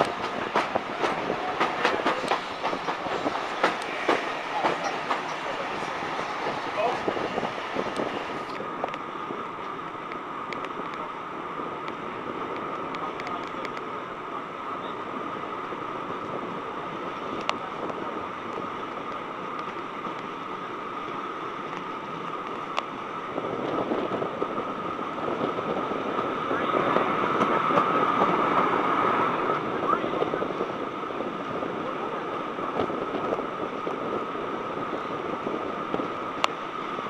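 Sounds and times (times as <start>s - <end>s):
train wheels and wind rushing: 0.0s - 37.0s.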